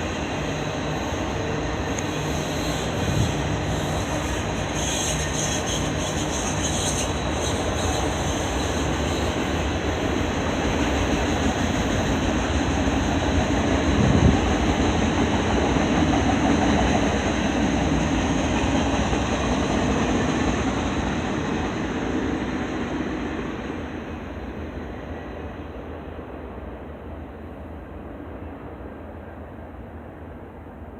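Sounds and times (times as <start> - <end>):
freight train wheels rattling: 0.0 - 24.8.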